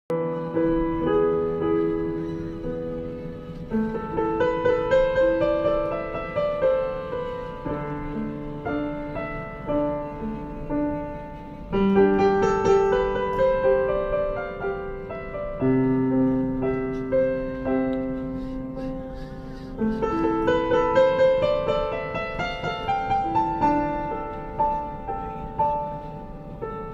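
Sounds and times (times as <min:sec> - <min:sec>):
slow piano music: 0:00.1 - 0:26.9.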